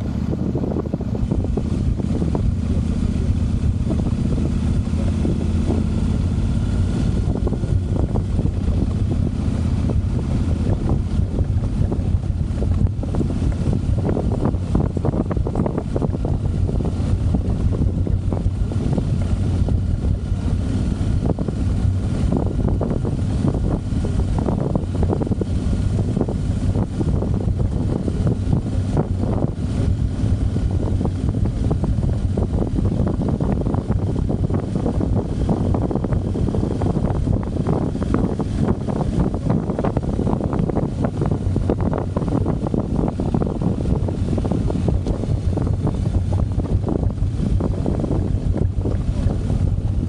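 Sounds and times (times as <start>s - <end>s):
motorcycle engine cruising: 0.0s - 50.0s
wind noise on microphone: 0.0s - 50.0s.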